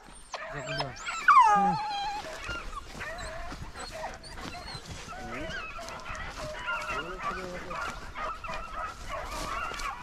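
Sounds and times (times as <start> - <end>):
dogs baying: 0.0 - 10.0.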